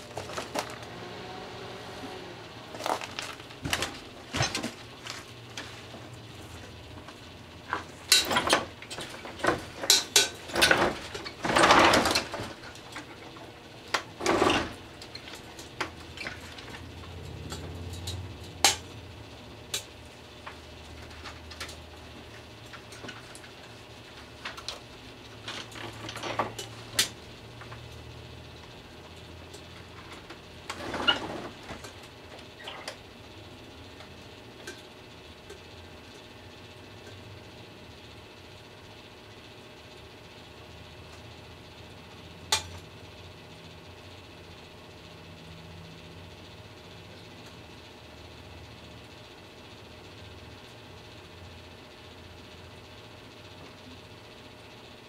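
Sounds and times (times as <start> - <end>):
microwave oven humming: 0.0 - 55.0.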